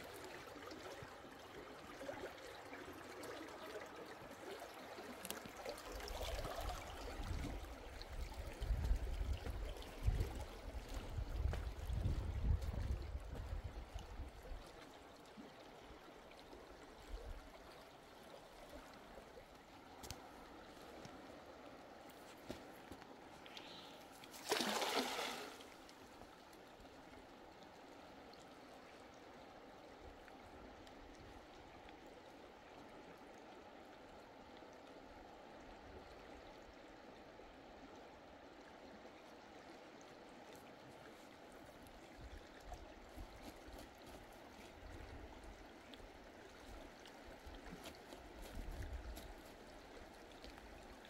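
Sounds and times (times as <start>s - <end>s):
water trickling and gurgling: 0.0s - 51.0s.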